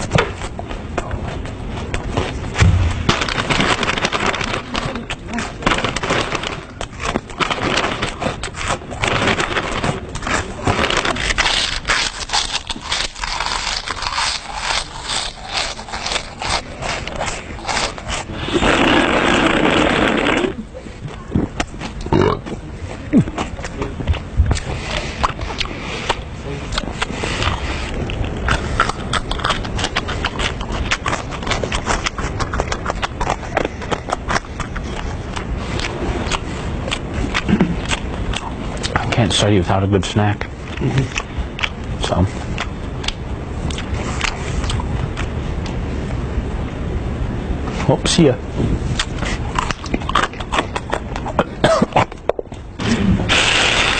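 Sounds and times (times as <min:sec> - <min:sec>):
crunching and chewing: 0:00.0 - 0:39.6, 0:40.2 - 0:46.2, 0:47.6 - 0:53.9.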